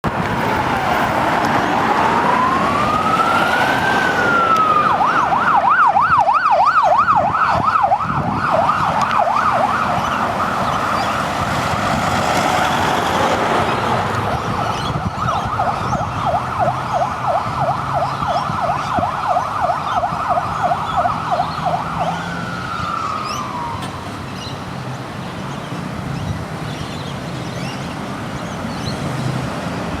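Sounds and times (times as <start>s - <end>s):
traffic noise: 0.0s - 30.0s
police car siren: 0.1s - 24.3s.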